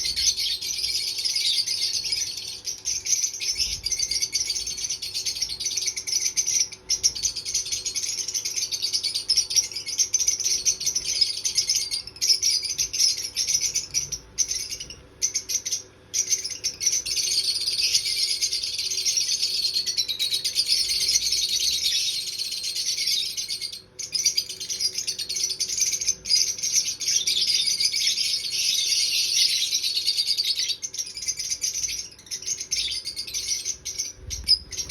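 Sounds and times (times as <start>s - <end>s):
lovebird twittering: 0.0s - 34.9s.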